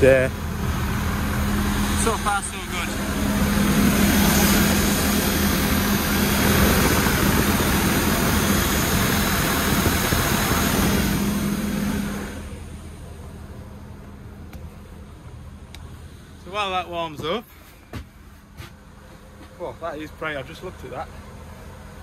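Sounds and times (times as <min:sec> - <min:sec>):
diesel engine idling: 0:00.0 - 0:22.0
steady hum: 0:00.0 - 0:22.0.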